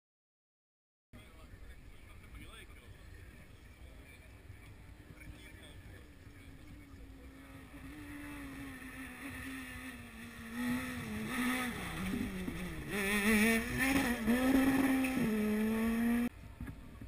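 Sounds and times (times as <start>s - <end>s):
rally car engine: 1.2s - 17.0s
drone motors humming: 1.6s - 17.0s.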